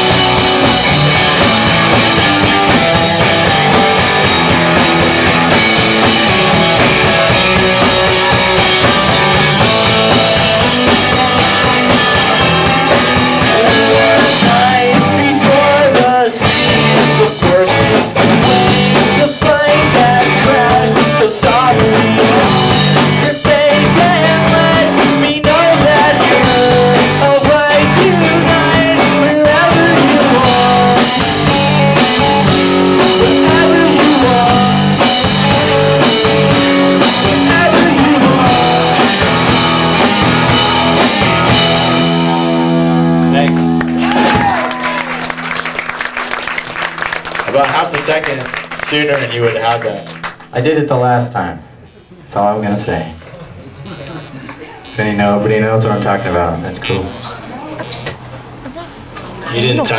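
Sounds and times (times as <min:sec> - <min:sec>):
live rock band playing: 0:00.0 - 0:50.6, 0:53.2 - 0:59.9.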